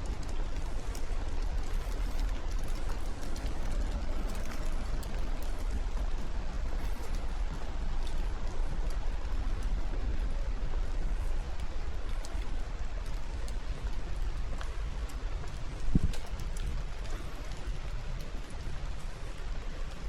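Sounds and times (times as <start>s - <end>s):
rain ticks and drips: 0.0s - 20.0s
steady low rumble: 0.0s - 20.0s.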